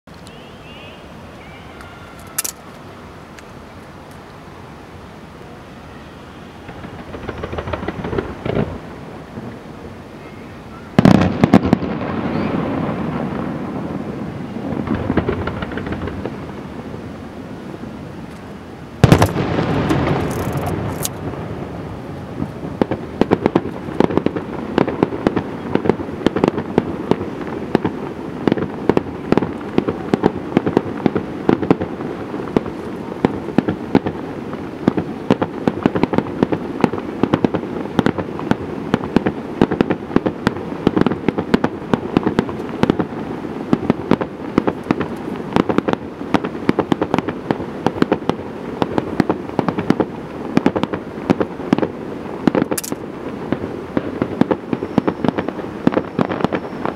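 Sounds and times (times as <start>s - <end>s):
echoes of fireworks: 4.6s - 56.9s
fireworks bangs: 5.4s - 17.1s, 19.0s - 56.9s.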